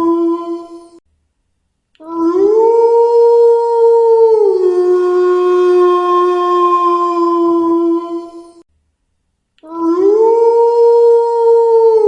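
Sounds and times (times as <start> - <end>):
wolf howling: 0.0 - 1.0, 2.1 - 8.6, 9.7 - 12.0.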